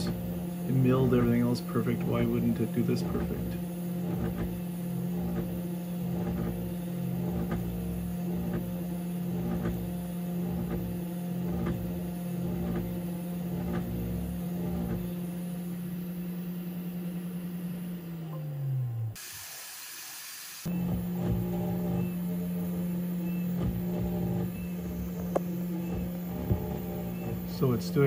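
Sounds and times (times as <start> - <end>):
router spindle running: 0.0 - 28.0.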